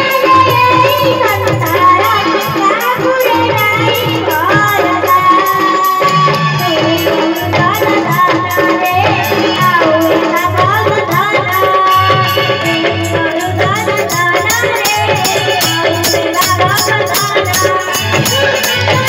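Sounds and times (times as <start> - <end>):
devotional music over loudspeakers: 0.0 - 19.0
fast percussion beat: 0.0 - 19.0.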